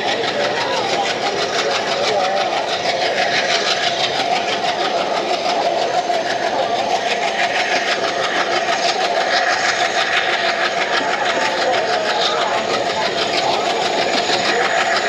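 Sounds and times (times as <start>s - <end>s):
fast fine rattle: 0.0s - 15.0s
train running on rails: 0.0s - 15.0s.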